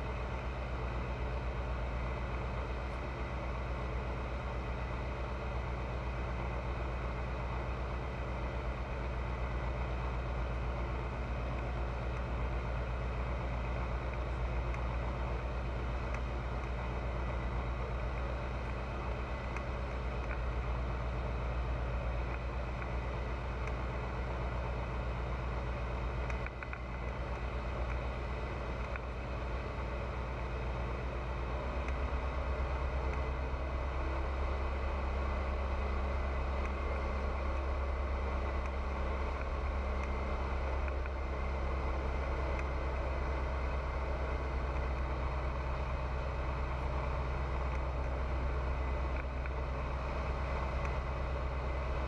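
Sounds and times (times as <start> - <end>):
light aircraft engine and propeller: 0.0 - 52.0.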